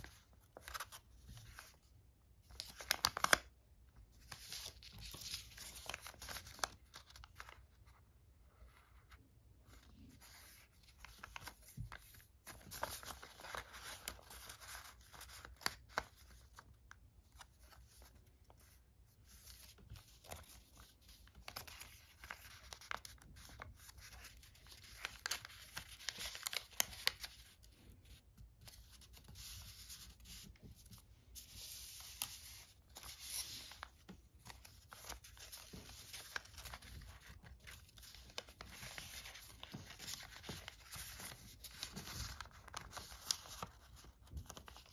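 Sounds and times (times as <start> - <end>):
paper rustling and crinkling: 0.0 - 44.9.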